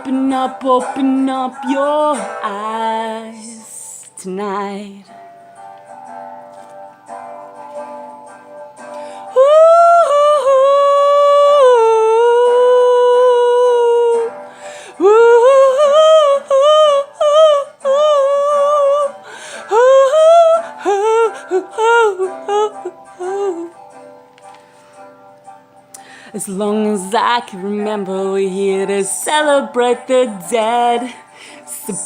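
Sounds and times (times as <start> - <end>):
person singing wordless notes: 0.0 - 5.2, 9.2 - 23.9, 26.0 - 32.0
soft acoustic guitar: 0.0 - 32.0.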